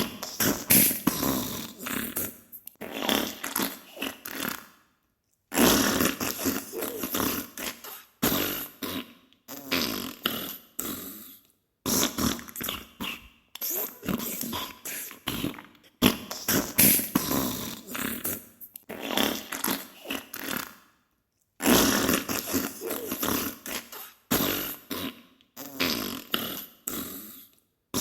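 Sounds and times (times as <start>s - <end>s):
farting spluttering bursts: 0.0s - 4.7s, 5.5s - 11.0s, 11.9s - 20.8s, 21.6s - 27.2s.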